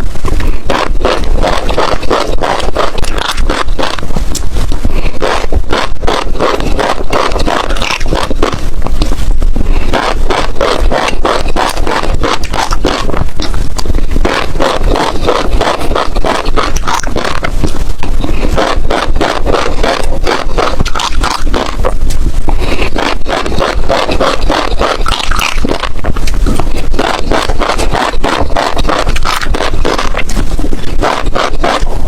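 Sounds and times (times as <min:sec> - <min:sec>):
seeds crunching between teeth: 0:00.0 - 0:32.0.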